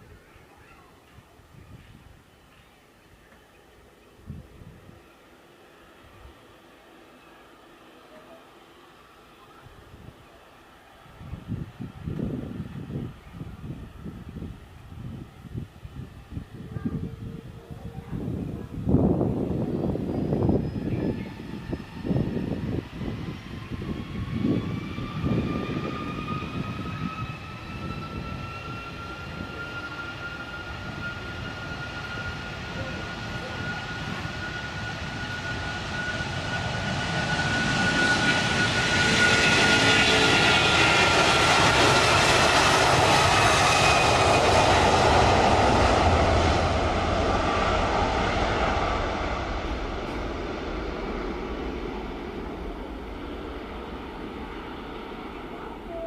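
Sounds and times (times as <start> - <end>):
jet airliner engines passing: 0.0 - 56.0.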